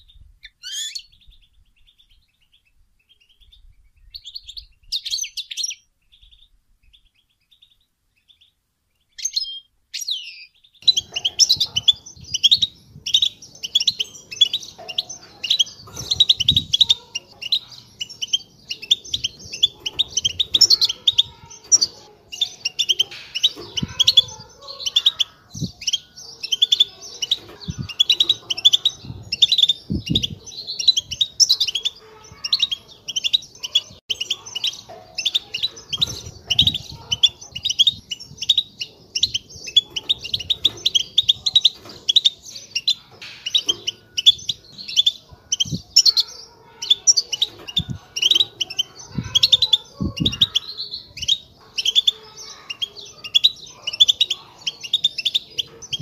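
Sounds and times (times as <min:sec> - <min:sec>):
birds twittering: 0:00.0 - 0:56.0.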